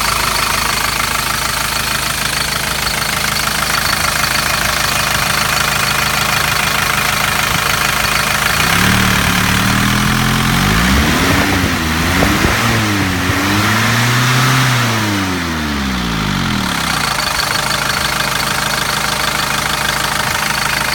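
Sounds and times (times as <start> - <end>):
diesel engine idling and revving: 0.0 - 20.9.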